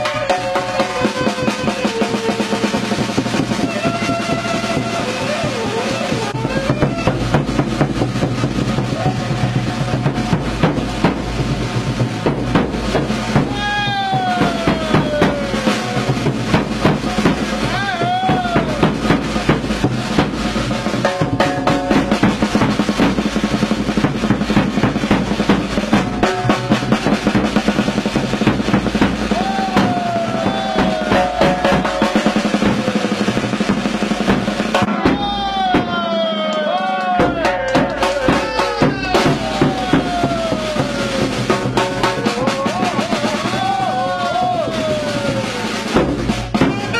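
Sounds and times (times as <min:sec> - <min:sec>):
fast drum beat: 0:00.0 - 0:36.3, 0:37.1 - 0:46.9.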